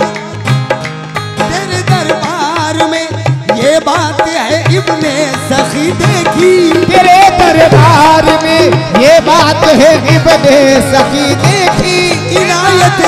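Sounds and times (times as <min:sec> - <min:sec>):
hand drum beating: 0:00.0 - 0:13.0
harmonium: 0:00.0 - 0:13.0
man singing ornamented notes: 0:01.4 - 0:13.0.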